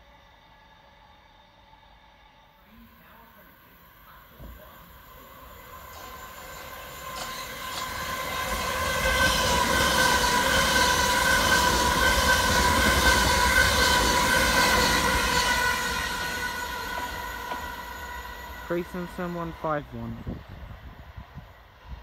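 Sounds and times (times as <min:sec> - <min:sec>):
electric train rumbling past: 0:00.0 - 0:22.0
high whine of train motors: 0:00.0 - 0:22.0.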